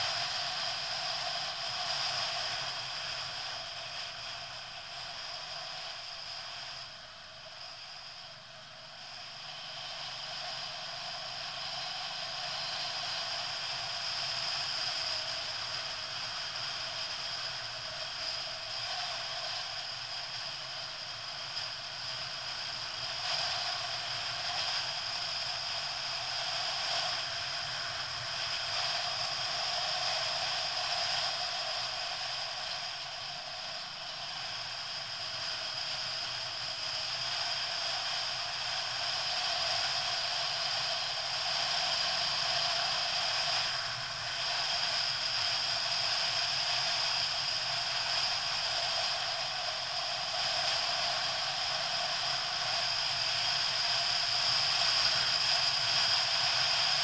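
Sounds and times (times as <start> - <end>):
motorcycle engine and wind noise: 9.8 - 57.0.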